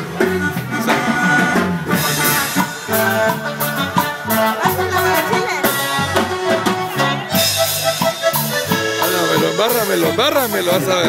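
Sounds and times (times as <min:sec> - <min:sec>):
latin american music: 0:00.0 - 0:11.0.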